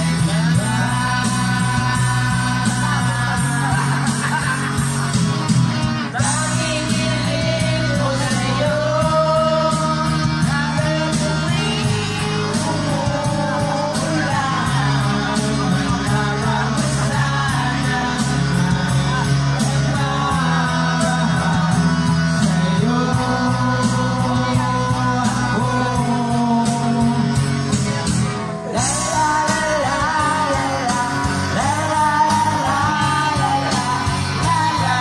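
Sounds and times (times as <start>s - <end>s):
backing track with bass line: 0.0s - 35.0s
man singing into microphone: 0.0s - 35.0s.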